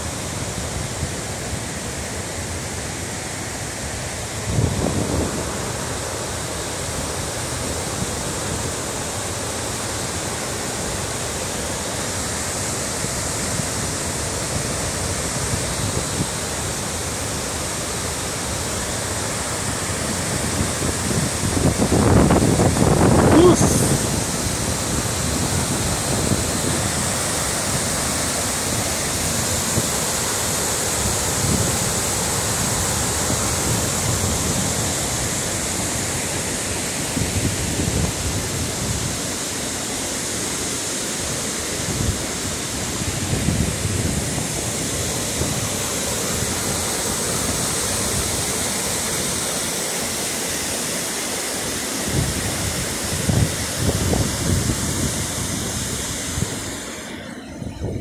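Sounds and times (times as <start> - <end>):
water rushing over rock: 0.0 - 58.0.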